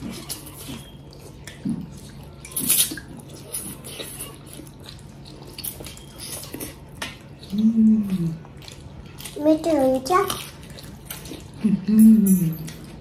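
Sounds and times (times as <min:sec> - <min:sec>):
chewing and biting: 0:00.0 - 0:11.7.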